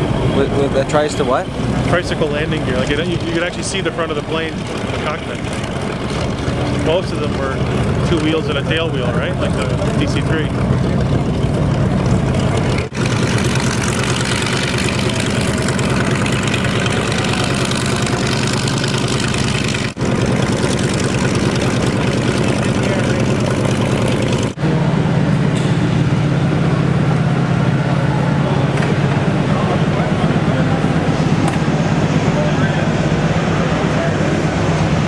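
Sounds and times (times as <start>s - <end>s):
propeller engines droning: 0.0s - 35.0s
steady low hum: 0.0s - 35.0s.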